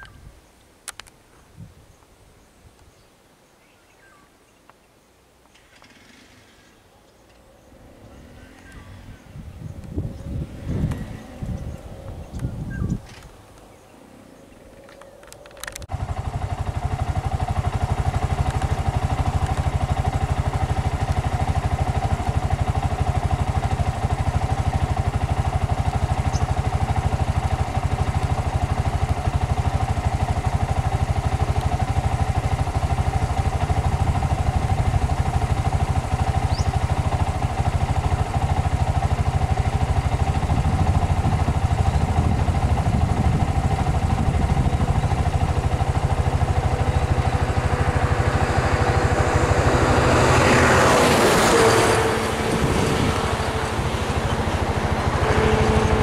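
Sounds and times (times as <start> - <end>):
vehicle engine idling: 5.5 - 56.0.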